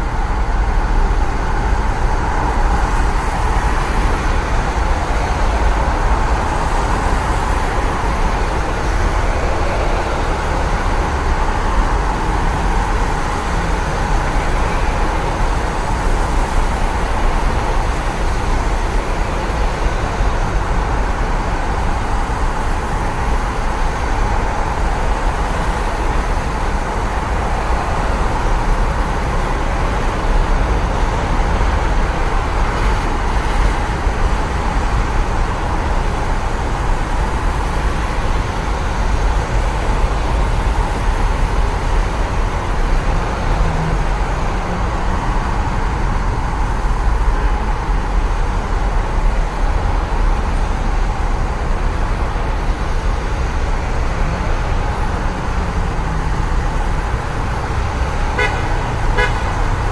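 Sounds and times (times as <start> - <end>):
tyres swishing on wet road: 0.0 - 59.9.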